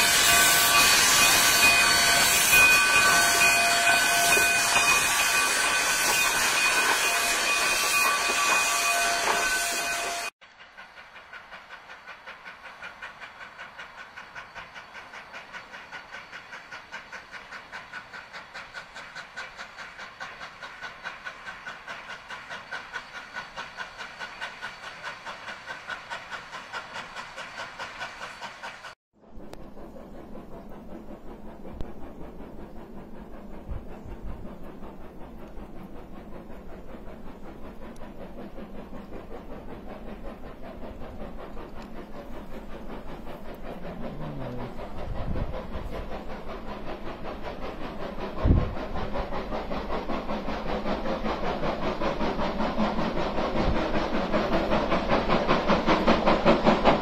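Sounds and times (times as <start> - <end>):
steam hissing with whistling tones: 0.0 - 57.0
steam locomotive chuffing: 0.0 - 57.0.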